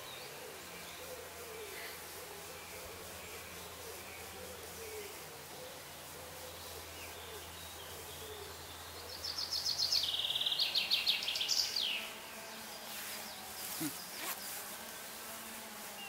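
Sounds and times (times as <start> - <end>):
faint forest background: 0.0 - 16.0
songbird singing: 0.0 - 16.0.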